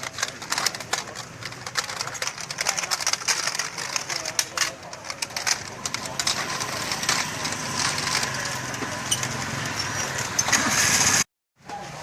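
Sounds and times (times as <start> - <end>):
scattered clicks and knocks: 0.0 - 10.6
motor traffic: 0.0 - 12.0.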